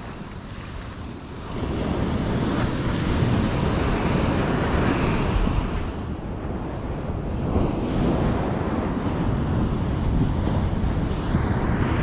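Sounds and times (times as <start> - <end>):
ocean surf breaking on beach: 0.0 - 12.0
wind buffeting the microphone: 0.0 - 12.0.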